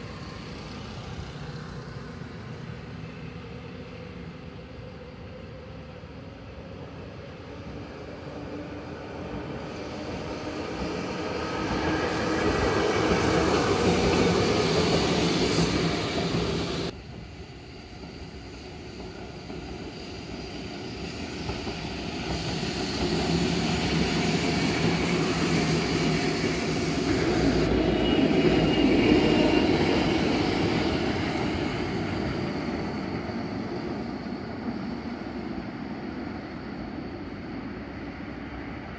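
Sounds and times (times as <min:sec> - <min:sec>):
streetcars passing: 0:00.0 - 0:21.1, 0:21.7 - 0:38.9.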